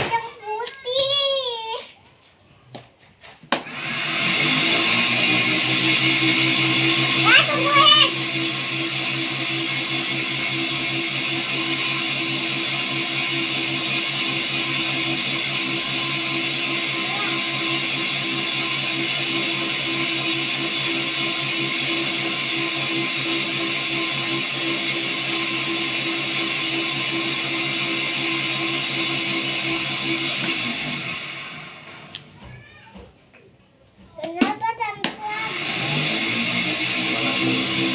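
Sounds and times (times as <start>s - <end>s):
cotton candy machine humming: 3.6s - 34.0s, 35.0s - 37.9s.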